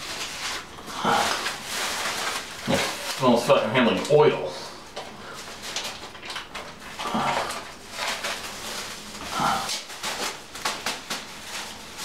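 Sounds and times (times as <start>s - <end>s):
plastic sheeting crinkling: 0.0s - 4.3s, 5.2s - 12.0s.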